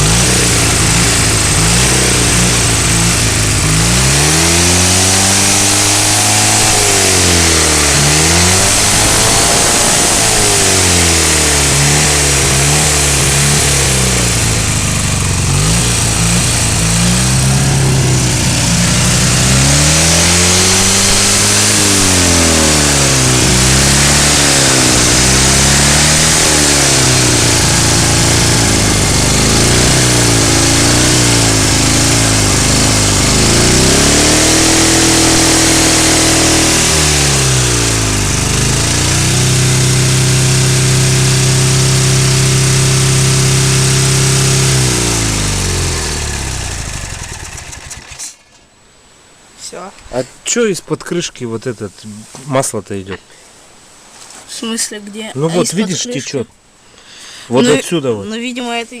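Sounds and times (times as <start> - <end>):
motorcycle engine revving: 0.0 - 48.6.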